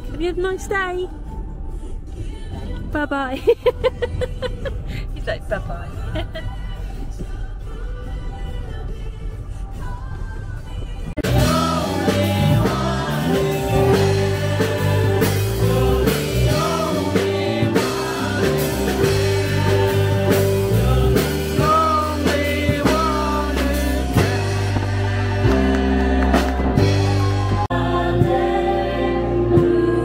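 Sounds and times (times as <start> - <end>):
pop-rock song with singer: 5.4 - 30.0.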